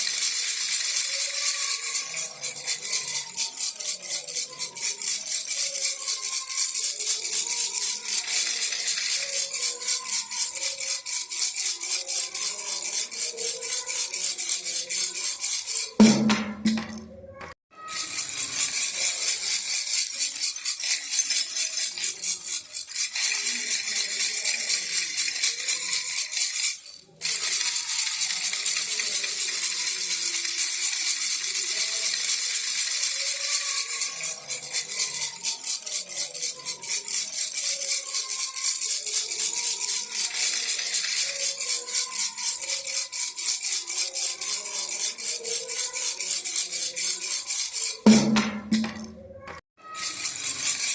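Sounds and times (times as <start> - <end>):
baby rattle shaken rapidly: 0.0 - 50.9.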